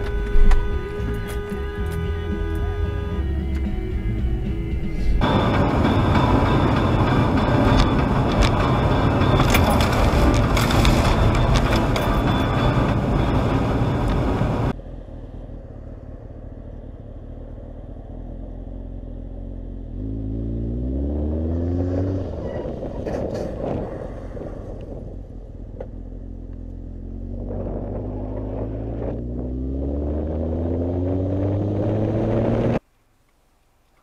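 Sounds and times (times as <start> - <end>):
motorcycle engine accelerating: 0.0 - 32.8
road noise rushing: 0.0 - 32.9.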